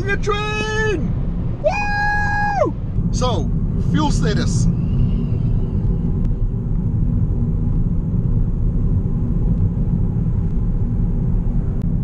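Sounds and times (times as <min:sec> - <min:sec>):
car engine drone: 0:00.0 - 0:12.0
tyre and road noise: 0:00.0 - 0:12.0.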